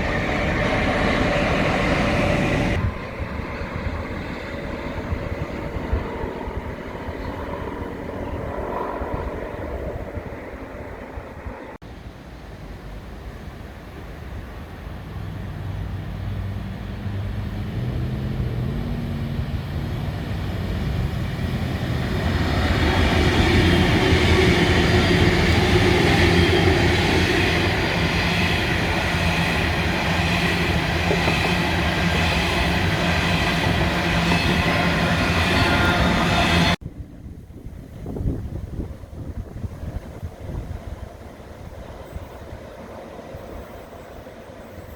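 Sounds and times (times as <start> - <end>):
diesel train passing: 0.0 - 44.9.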